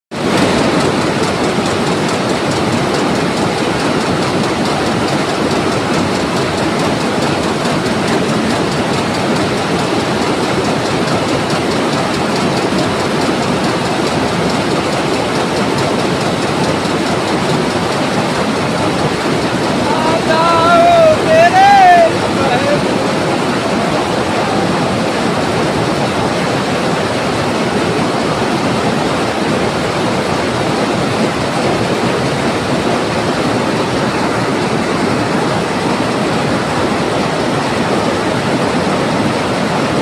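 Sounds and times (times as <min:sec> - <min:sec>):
textile machines clattering: 0:00.1 - 0:40.0.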